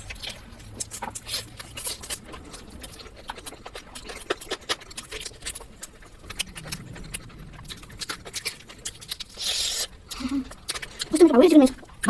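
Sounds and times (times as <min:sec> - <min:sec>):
wet chewing: 0:00.0 - 0:12.0.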